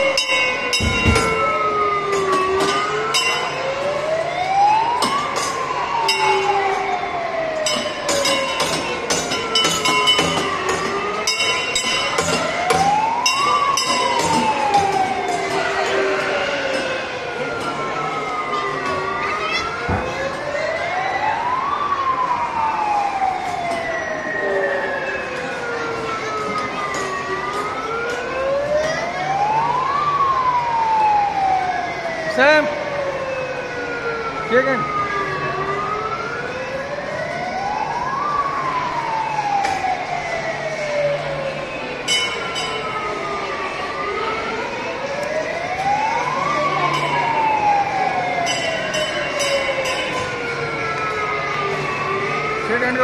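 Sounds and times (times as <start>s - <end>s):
fire truck wail siren: 0.0s - 53.0s.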